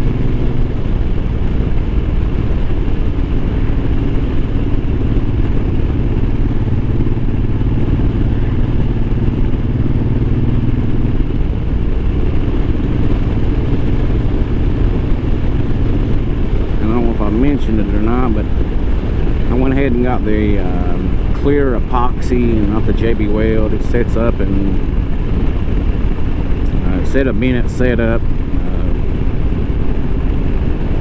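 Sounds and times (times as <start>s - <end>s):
motorcycle engine running: 0.0s - 31.0s
wind rushing: 0.0s - 31.0s.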